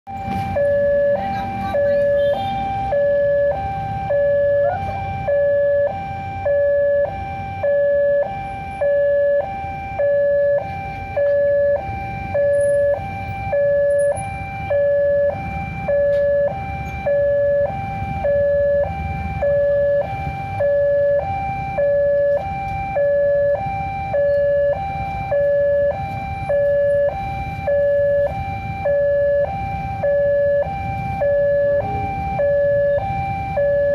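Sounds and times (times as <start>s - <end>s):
motorbike traffic rumble: 0.1s - 33.9s
two-tone crossing alarm: 0.1s - 33.9s.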